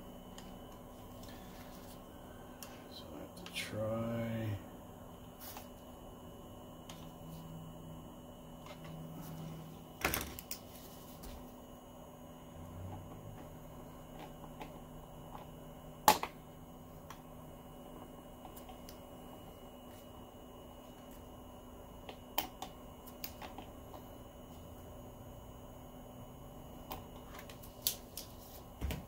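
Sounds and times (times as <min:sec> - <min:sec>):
projector hum: 0:00.0 - 0:29.0.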